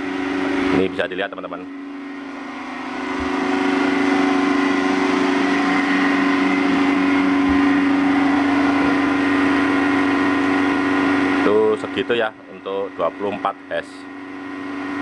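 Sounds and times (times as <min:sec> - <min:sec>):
blower whining: 0:00.0 - 0:15.0.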